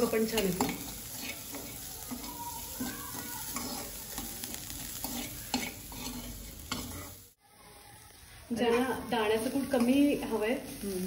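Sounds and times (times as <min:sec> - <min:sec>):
spoon scraping in a pan: 0:00.0 - 0:07.4, 0:08.6 - 0:11.0
light sizzle: 0:00.0 - 0:11.0.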